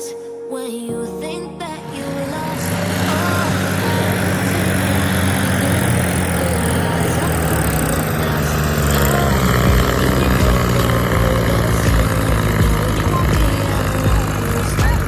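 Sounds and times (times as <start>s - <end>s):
combine harvester engine humming: 2.3s - 15.0s.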